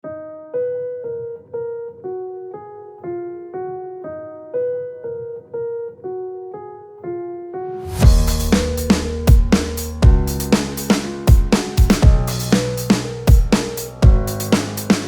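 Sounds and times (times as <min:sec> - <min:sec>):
slow keyboard melody: 0:00.0 - 0:15.0.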